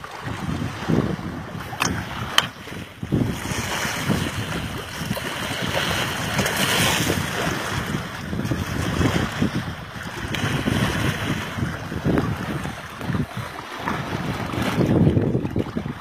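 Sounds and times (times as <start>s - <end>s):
water splashing along hull: 0.0s - 16.0s
wind buffeting microphone: 0.0s - 16.0s.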